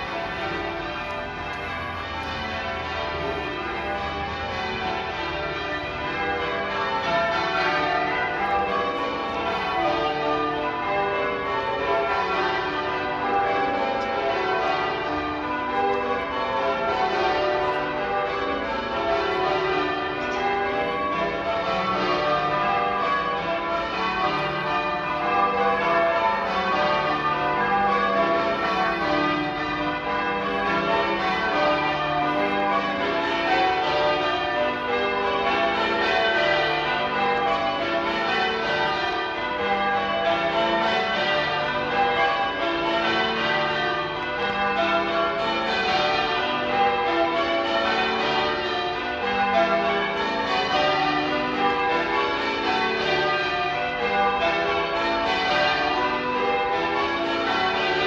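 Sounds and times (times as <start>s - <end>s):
church bells change ringing: 0.0s - 58.0s.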